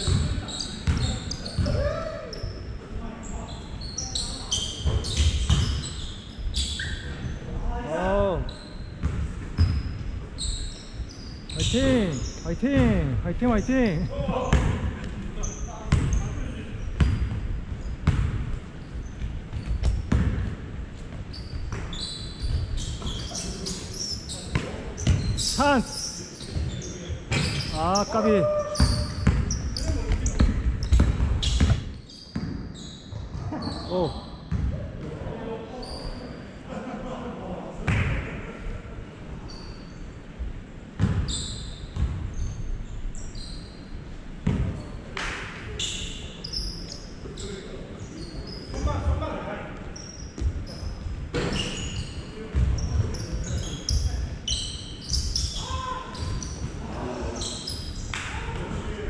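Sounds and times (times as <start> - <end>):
sneaker squeaks: 0.0 - 34.8, 35.7 - 36.4, 39.4 - 40.2, 41.0 - 45.1, 45.7 - 58.8.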